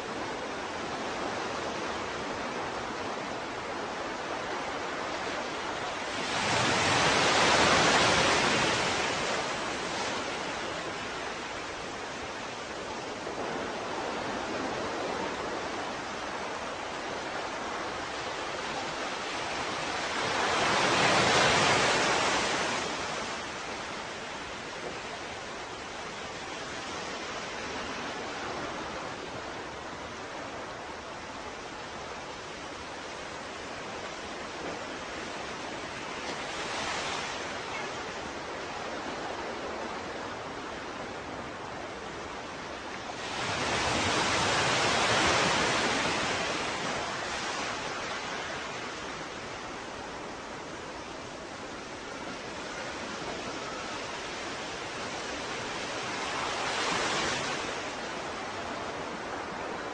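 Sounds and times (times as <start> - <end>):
hiss of surf: 0.0 - 59.9
waves breaking on shore: 0.0 - 59.9.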